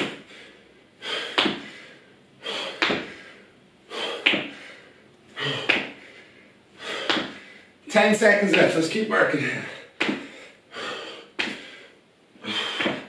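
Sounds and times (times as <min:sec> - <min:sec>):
hard breath out: 0:00.0 - 0:07.8, 0:09.5 - 0:13.0.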